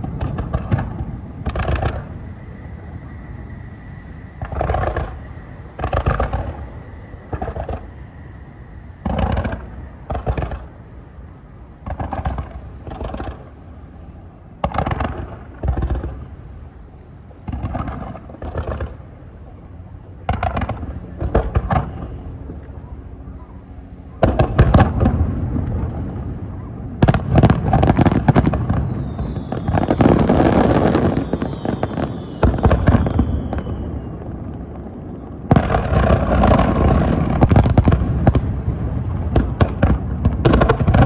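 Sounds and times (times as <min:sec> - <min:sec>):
fireworks bursting with booms: 0:00.0 - 0:02.5, 0:03.3 - 0:08.2, 0:09.0 - 0:10.9, 0:11.8 - 0:13.7, 0:14.6 - 0:16.5, 0:17.4 - 0:19.2, 0:20.2 - 0:23.2, 0:23.8 - 0:41.0.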